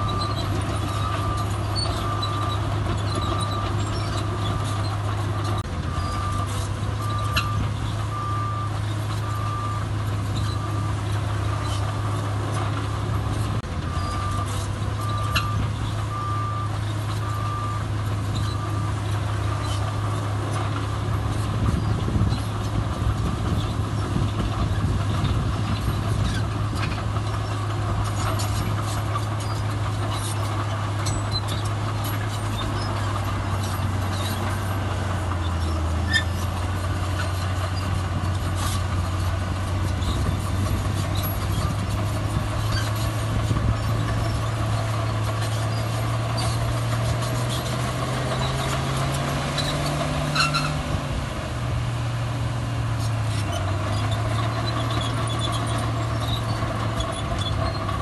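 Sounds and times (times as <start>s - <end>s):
diesel machinery engines: 0.0s - 58.0s.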